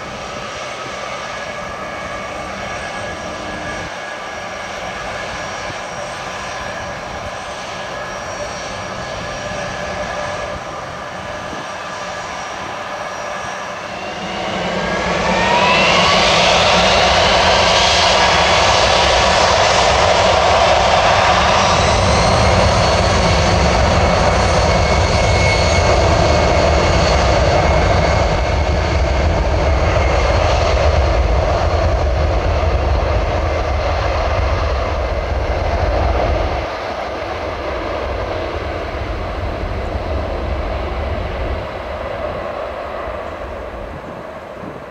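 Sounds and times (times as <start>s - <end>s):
deep jet engine rumble: 0.0s - 44.9s
jet engines spooling up: 0.0s - 44.9s
jet engines whining: 0.0s - 44.9s.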